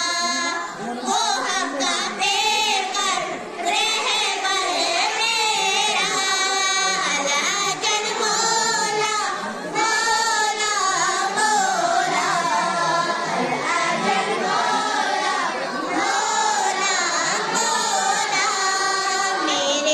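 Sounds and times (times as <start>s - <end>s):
girls singing together: 0.0s - 19.9s.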